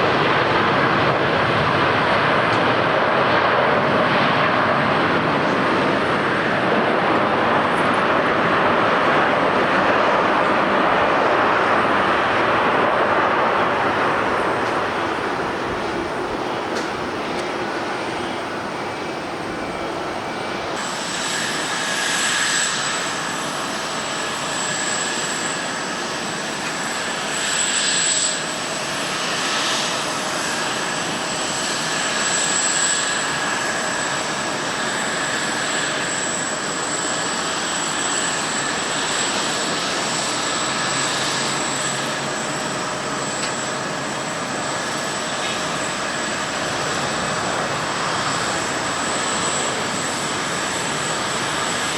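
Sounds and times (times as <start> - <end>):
high steady engine whine: 0.0 - 51.9
jet airliner engines running: 0.0 - 51.9.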